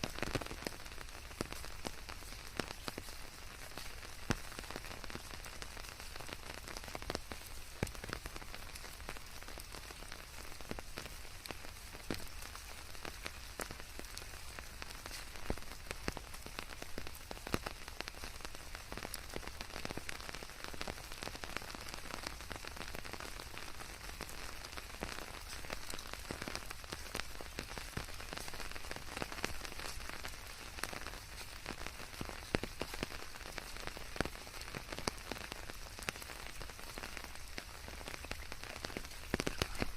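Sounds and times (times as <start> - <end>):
rain drops pattering on leaves: 0.0 - 39.9
rain hiss: 0.0 - 39.9.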